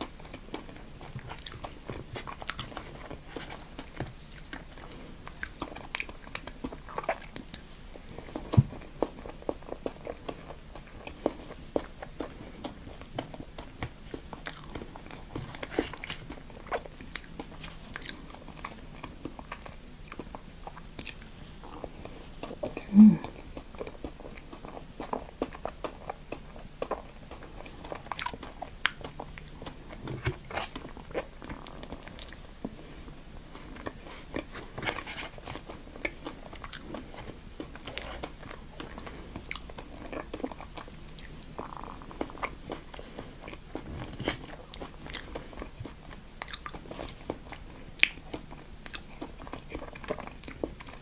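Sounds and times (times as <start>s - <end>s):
crunchy chewing and biting: 0.0s - 51.0s.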